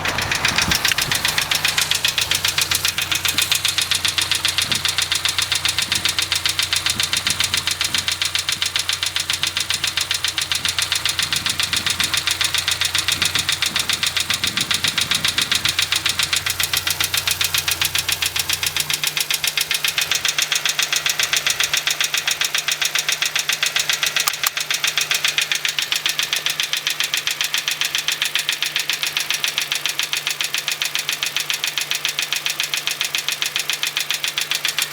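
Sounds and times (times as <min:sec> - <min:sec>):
car engine idling: 0:00.0 - 0:34.9
fast ticking engine knock: 0:00.0 - 0:34.9.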